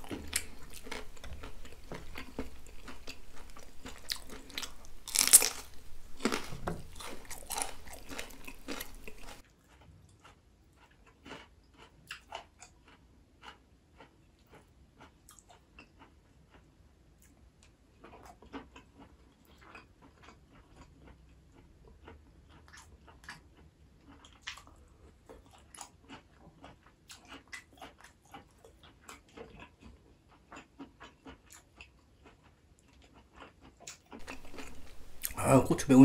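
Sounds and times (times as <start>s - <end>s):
close chewing clicks: 0.0s - 36.0s.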